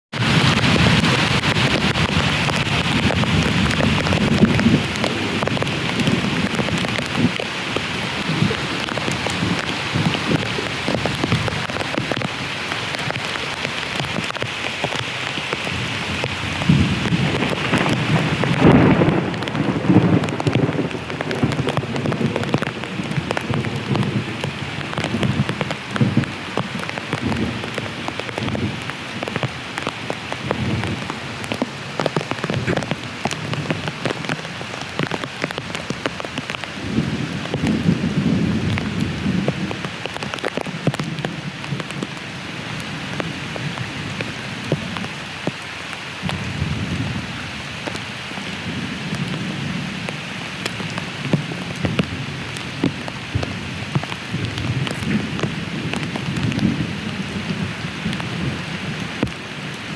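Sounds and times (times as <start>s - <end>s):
heavy rain falling: 0.1s - 59.9s.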